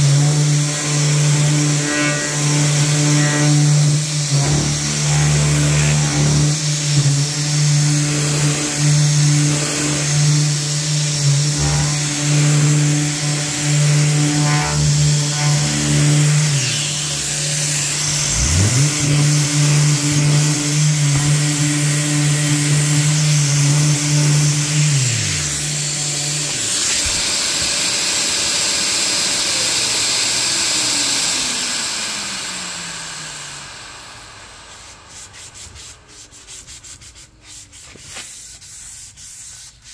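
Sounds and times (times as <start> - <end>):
hissing whine winding down: 0.0 - 35.1
power sander humming: 0.0 - 36.0
dust extraction hiss: 0.0 - 36.6.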